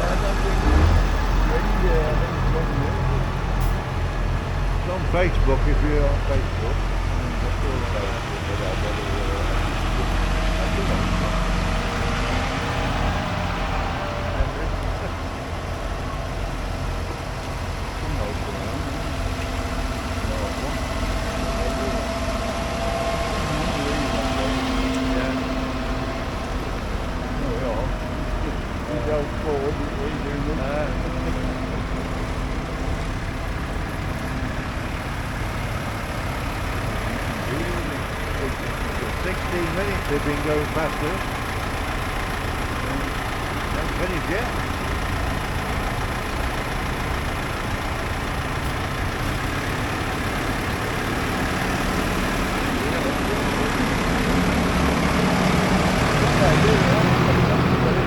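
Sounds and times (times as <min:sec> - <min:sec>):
tractor engines rumbling: 0:00.0 - 0:58.0.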